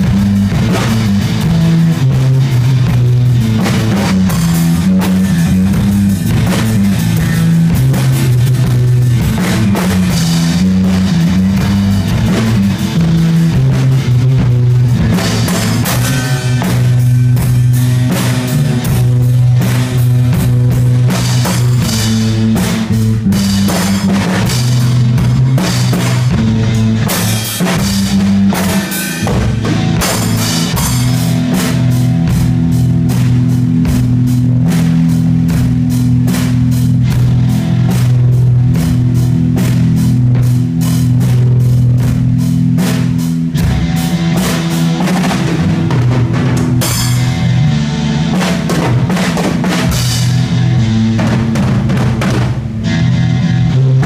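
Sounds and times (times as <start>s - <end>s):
drum kit beating: 0.0s - 54.0s
electric bass: 0.0s - 54.0s
electric guitar: 0.0s - 54.0s.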